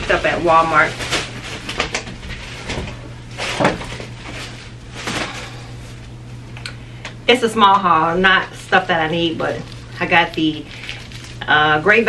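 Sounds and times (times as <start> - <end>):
plastic bag rustling: 0.0 - 6.2, 8.3 - 12.0.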